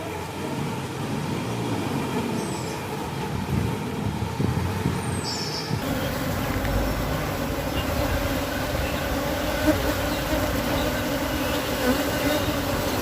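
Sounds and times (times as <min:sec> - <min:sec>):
honeybee colony humming: 0:00.0 - 0:13.0.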